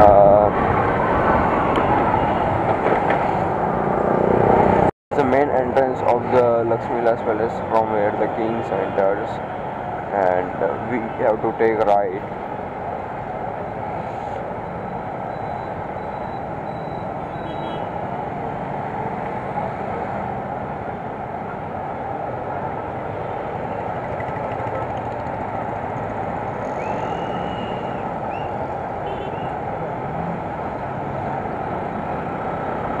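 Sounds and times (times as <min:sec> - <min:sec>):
traffic engines idling and passing: 0:00.0 - 0:33.0.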